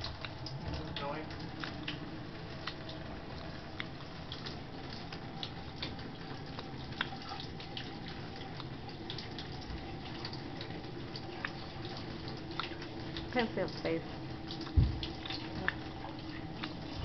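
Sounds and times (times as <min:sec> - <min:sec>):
water drips and splashes: 0:00.0 - 0:17.0.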